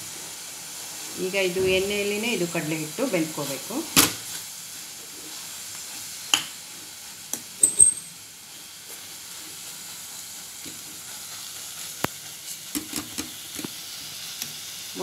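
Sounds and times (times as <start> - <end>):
leaves and flour sizzling in oil: 0.0 - 15.0.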